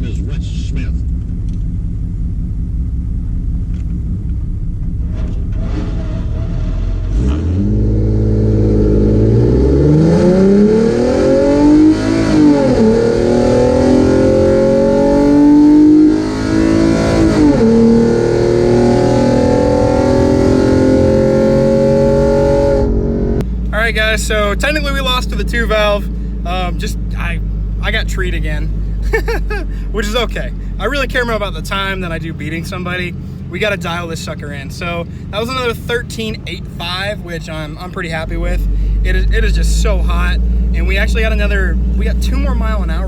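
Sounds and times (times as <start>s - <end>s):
drag car engine revving: 0.0s - 43.0s.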